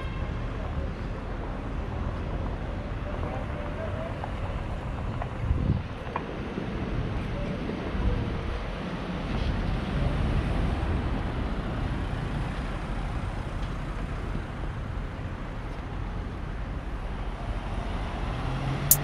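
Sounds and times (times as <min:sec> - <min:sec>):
background town traffic: 0:00.0 - 0:19.0.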